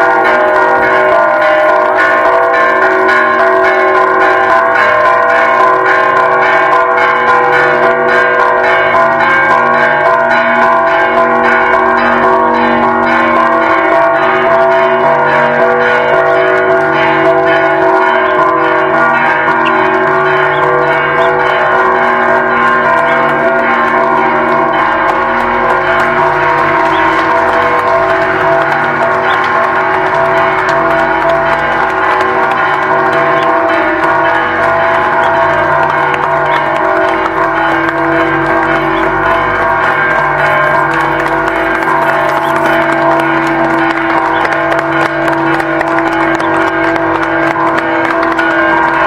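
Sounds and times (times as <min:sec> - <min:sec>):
church bells pealing: 0:00.0 - 0:49.0.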